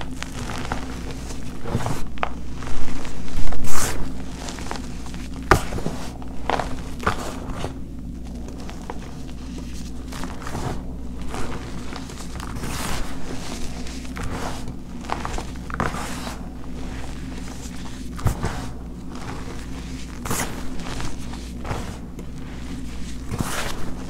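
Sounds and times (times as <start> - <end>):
chalk powder crunching: 0.0 - 24.0
steady low hum: 0.0 - 24.0.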